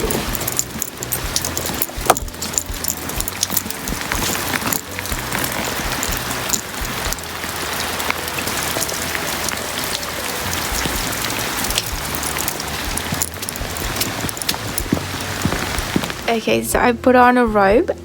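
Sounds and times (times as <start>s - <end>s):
heavy rain falling: 0.0s - 16.8s.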